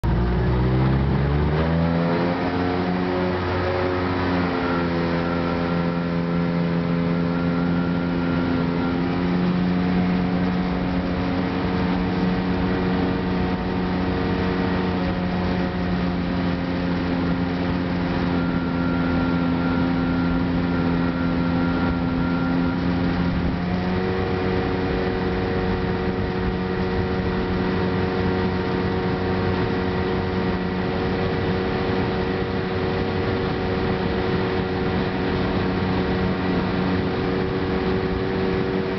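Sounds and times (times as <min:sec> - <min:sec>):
jet boat engine running: 0:00.0 - 0:38.9.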